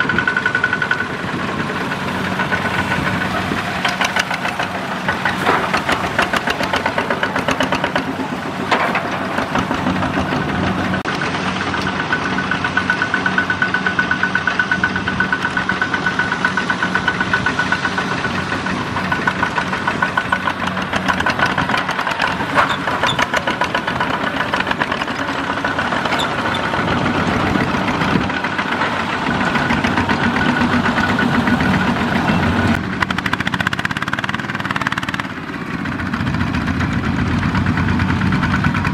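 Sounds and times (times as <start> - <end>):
diesel engines chugging: 0.0 - 38.9.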